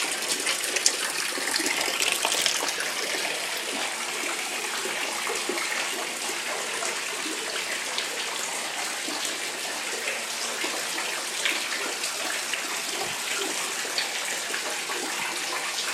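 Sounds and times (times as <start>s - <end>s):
water pouring and splashing: 0.0s - 15.9s.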